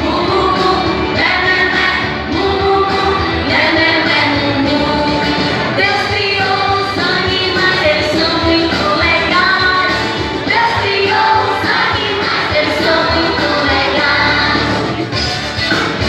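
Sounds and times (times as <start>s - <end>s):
person singing: 0.0s - 15.0s
backing music: 0.0s - 16.0s.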